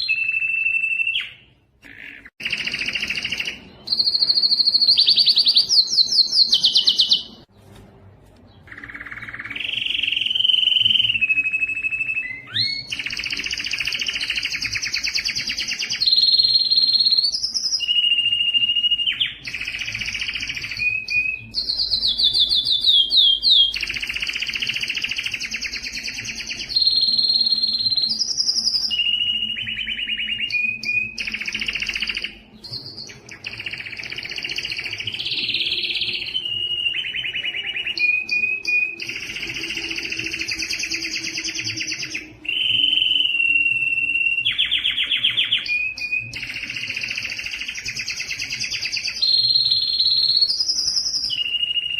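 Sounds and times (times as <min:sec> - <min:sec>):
canary singing trills and whistles: 0:00.0 - 0:07.5, 0:08.5 - 0:51.9.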